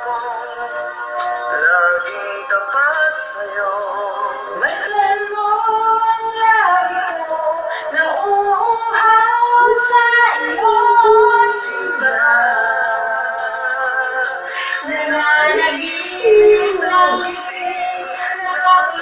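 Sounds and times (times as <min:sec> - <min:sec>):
pop ballad music: 0:00.0 - 0:19.0.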